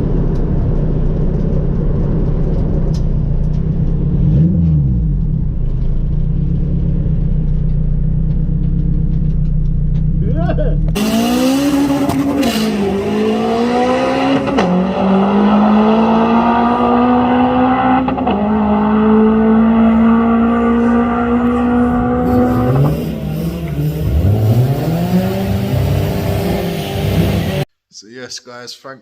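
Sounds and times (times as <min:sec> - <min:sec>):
car engine accelerating hard: 0:00.0 - 0:07.8, 0:08.4 - 0:27.7.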